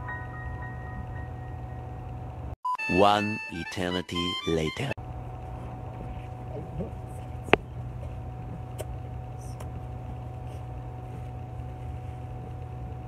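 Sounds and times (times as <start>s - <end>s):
faint whine: 0.0s - 2.6s, 5.0s - 13.0s
low hum: 0.0s - 2.6s, 5.0s - 13.0s.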